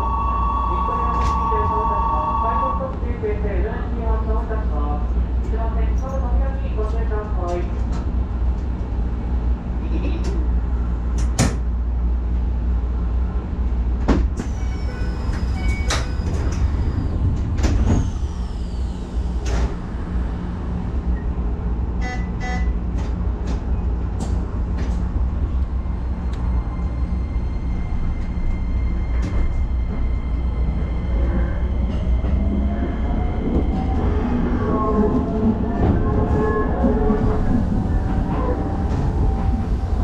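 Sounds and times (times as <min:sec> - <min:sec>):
train humming: 0:00.0 - 0:40.0.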